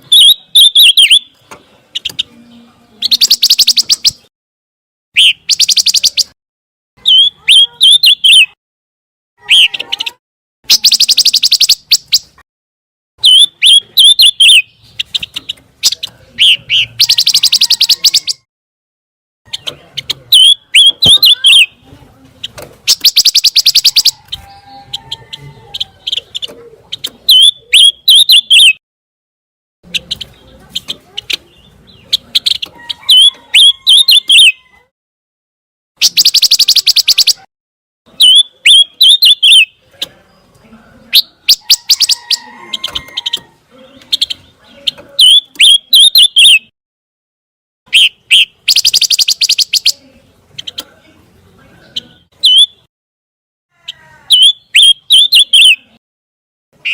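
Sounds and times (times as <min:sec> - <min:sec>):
bird chirping and trilling: 0:00.0 - 0:04.3, 0:05.2 - 0:06.4, 0:07.0 - 0:08.6, 0:09.4 - 0:12.4, 0:13.2 - 0:18.5, 0:19.5 - 0:28.8, 0:29.9 - 0:34.9, 0:36.0 - 0:37.5, 0:38.1 - 0:46.7, 0:47.9 - 0:50.9, 0:51.8 - 0:52.9, 0:53.9 - 0:56.0.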